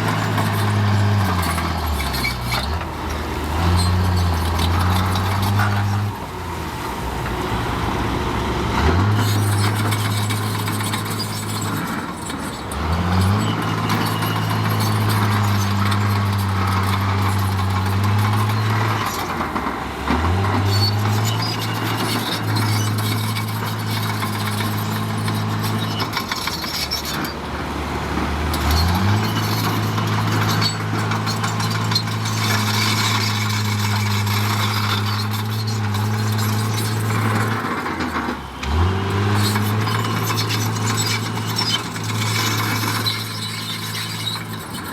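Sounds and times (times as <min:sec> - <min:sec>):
heavy diesel engine revving: 0:00.0 - 0:44.9.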